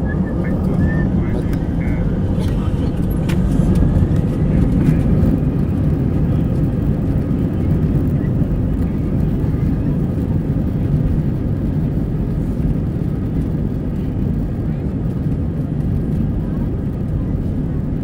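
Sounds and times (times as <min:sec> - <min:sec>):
jet engine roar in cabin: 0:00.0 - 0:18.0.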